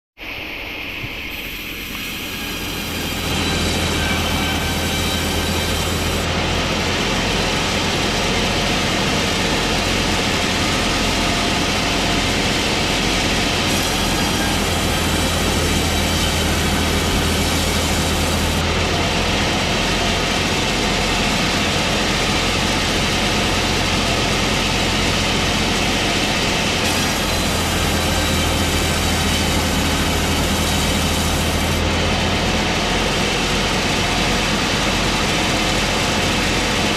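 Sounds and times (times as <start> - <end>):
track saw motor whirring: 1.1 - 36.9.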